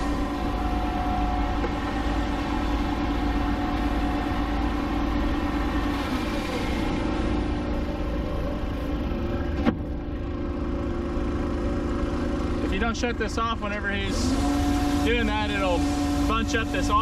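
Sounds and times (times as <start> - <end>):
farm machinery engine running: 0.0 - 17.0.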